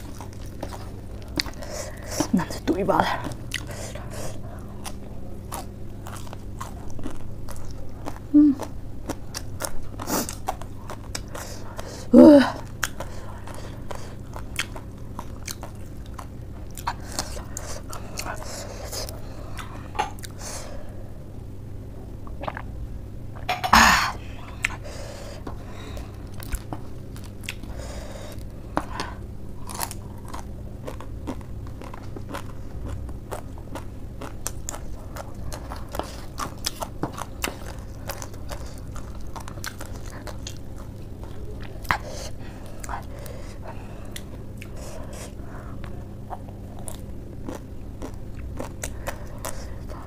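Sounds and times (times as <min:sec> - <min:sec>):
crunching and chewing noodles: 0:00.0 - 0:20.9, 0:24.4 - 0:50.0.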